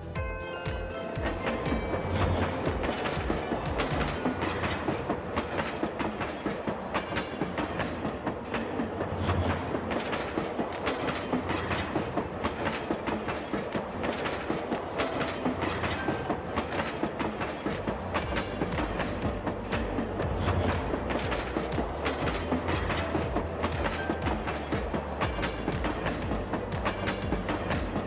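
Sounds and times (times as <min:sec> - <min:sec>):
train clickety-clack on rails: 0:00.0 - 0:28.0.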